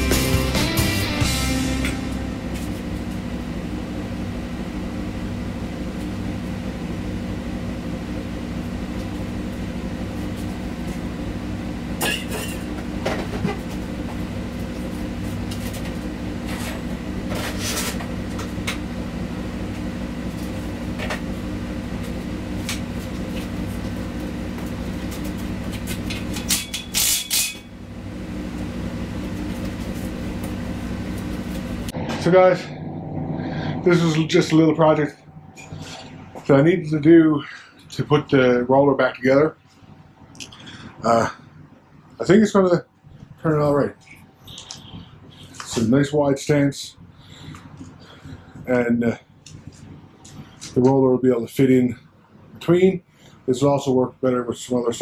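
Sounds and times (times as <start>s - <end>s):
machine humming: 0.0s - 53.6s.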